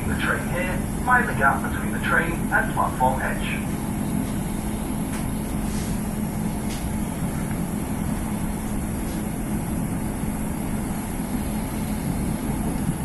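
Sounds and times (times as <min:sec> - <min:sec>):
diesel engine drone: 0:00.0 - 0:13.0
train wheels rumbling on track: 0:00.0 - 0:13.0.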